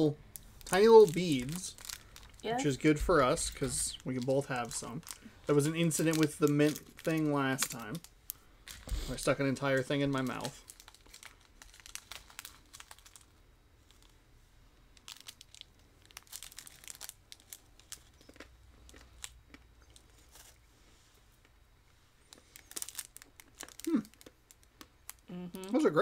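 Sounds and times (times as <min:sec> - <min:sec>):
candy wrapper crinkling: 0:00.0 - 0:14.2, 0:14.9 - 0:20.6, 0:22.2 - 0:26.0.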